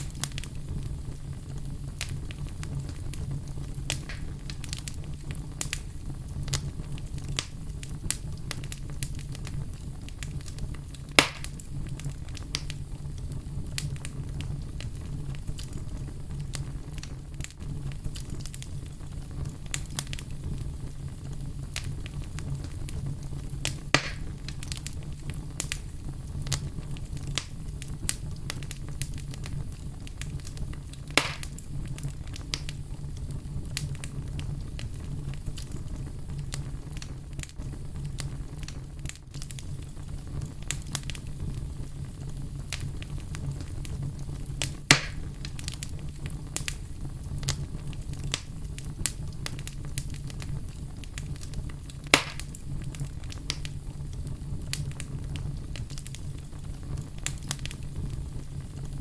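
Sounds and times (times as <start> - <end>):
loud fire pops: 0.0 - 59.0
wood fire crackling: 0.0 - 59.0.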